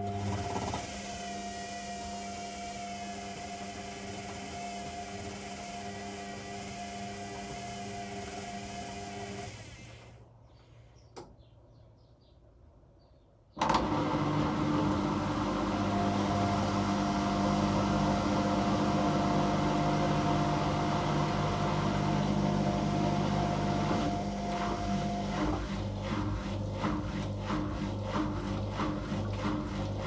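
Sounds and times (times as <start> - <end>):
washing machine motor humming: 0.0 - 10.1, 13.6 - 30.0.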